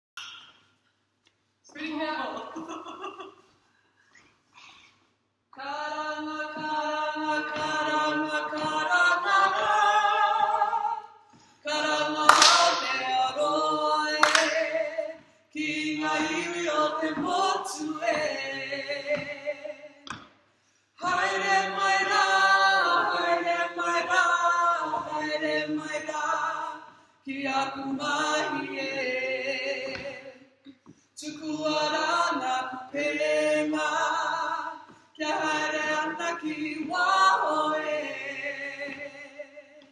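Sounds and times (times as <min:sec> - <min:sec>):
group singing unaccompanied: 0:05.6 - 0:20.3, 0:21.0 - 0:30.6, 0:31.2 - 0:39.9.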